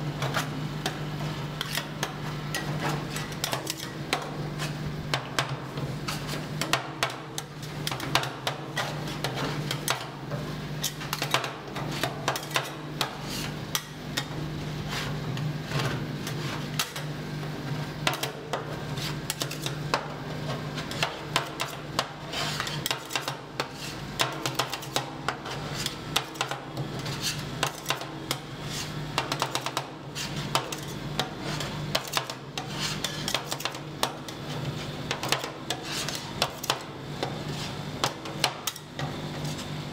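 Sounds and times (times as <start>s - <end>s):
metal spatulas tapping and scraping: 1.6s - 10.2s, 10.8s - 15.1s, 18.0s - 39.6s.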